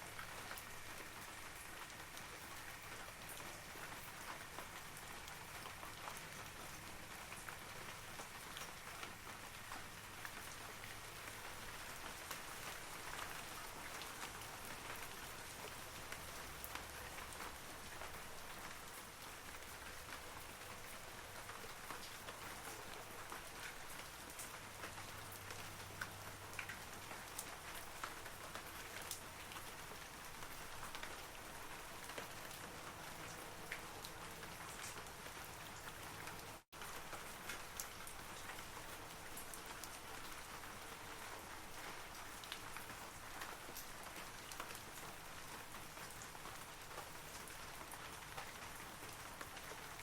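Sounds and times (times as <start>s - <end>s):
rain falling on trees: 0.0s - 50.0s.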